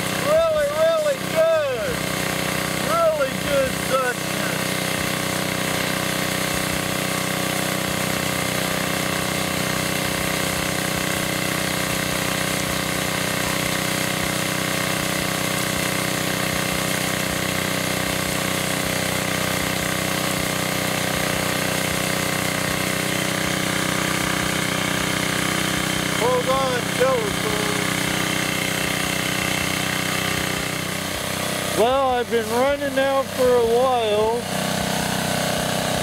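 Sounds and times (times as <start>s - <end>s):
small gasoline engine running: 0.0s - 36.0s.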